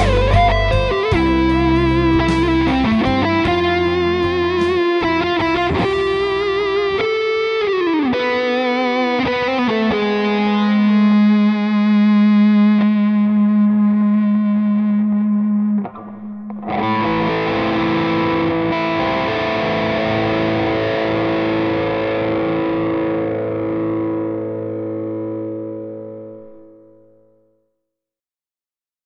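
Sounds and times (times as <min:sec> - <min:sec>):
overdriven electric guitar: 0:00.0 - 0:27.5.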